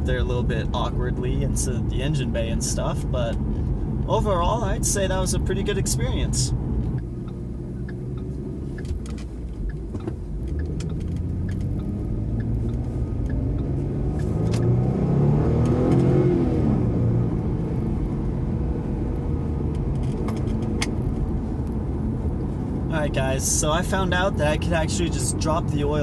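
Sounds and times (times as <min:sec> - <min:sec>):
car engine: 0:00.0 - 0:26.0
road noise: 0:00.0 - 0:26.0.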